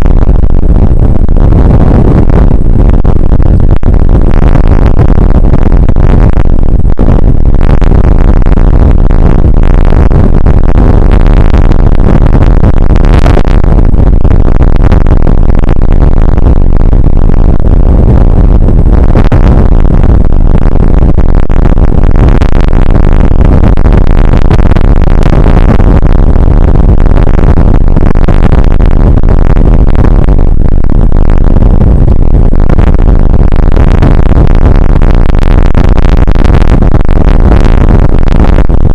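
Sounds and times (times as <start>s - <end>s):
distorted rain and wind noise: 0.0s - 38.9s.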